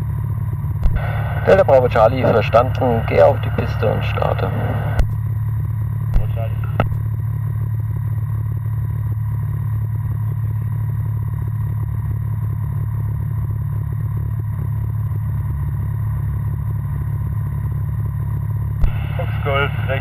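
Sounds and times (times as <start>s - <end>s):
light aircraft propeller engine: 0.0s - 20.0s.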